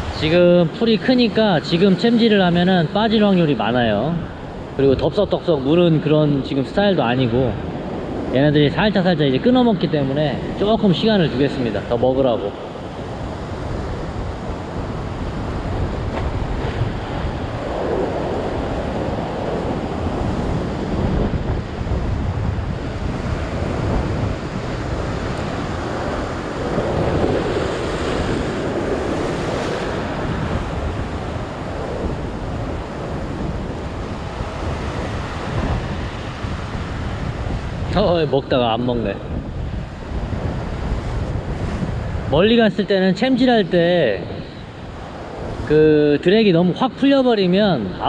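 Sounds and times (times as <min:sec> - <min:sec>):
ocean surf washing: 0:00.0 - 0:48.0
wind buffeting microphone: 0:00.0 - 0:48.0.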